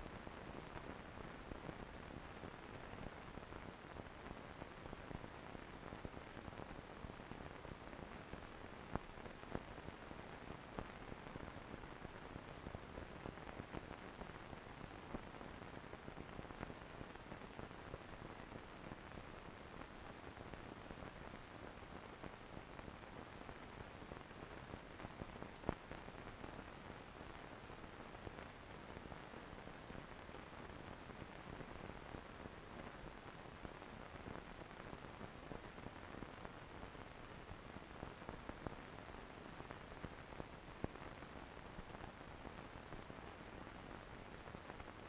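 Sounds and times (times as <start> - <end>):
faint steady hiss: 0.0 - 45.0.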